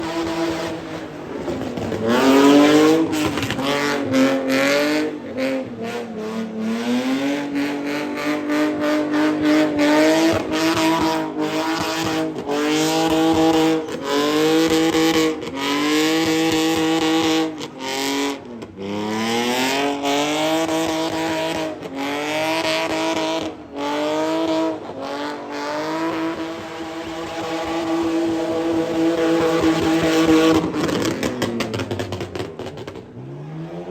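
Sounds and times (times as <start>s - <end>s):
car engine revving hard: 0.0s - 33.9s.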